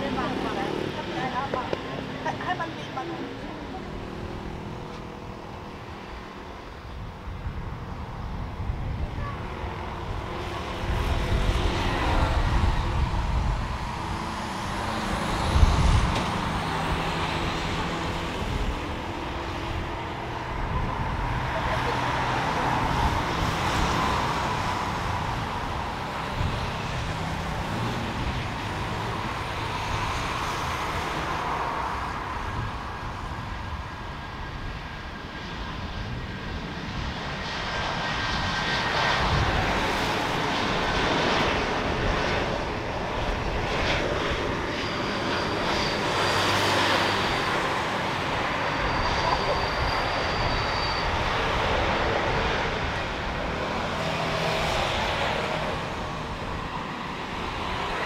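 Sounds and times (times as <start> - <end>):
jet engines at takeoff thrust: 0.0 - 58.0.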